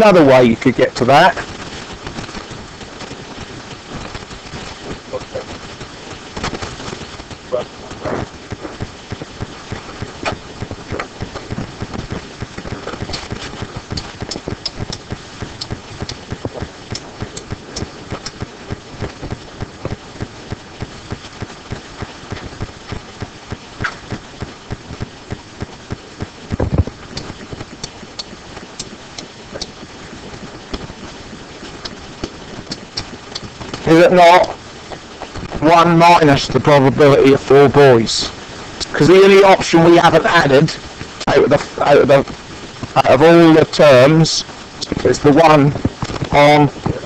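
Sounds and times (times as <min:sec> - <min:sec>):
rapid clicking and tapping: 0:00.0 - 0:47.0.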